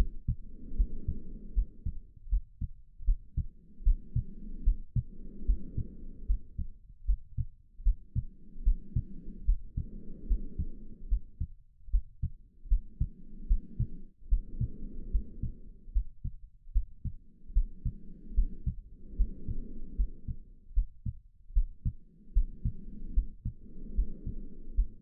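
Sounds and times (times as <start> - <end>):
low heartbeat thumping: 0.0 - 25.0
slow breathing: 0.0 - 25.0.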